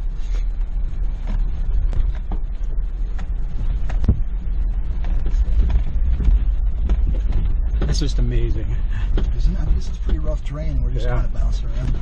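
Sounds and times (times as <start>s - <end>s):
creaks and knocks from car interior: 0.0s - 12.0s
low vehicle rumble: 0.0s - 12.0s.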